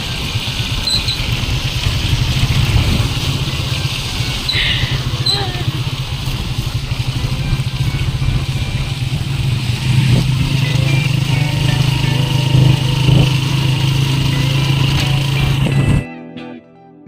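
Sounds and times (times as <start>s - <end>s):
vehicle engine on road: 0.0s - 16.0s.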